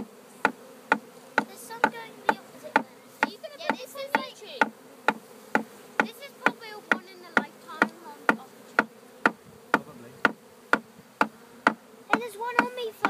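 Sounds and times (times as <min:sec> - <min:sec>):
bee swarm buzzing: 0:00.0 - 0:13.0.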